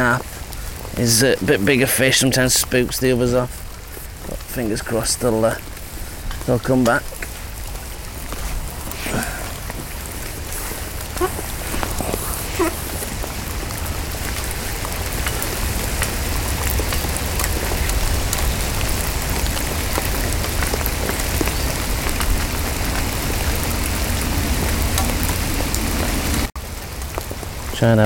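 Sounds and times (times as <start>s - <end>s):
heavy rain on a pond: 0.0s - 28.0s
rain pattering on plastic: 0.0s - 28.0s.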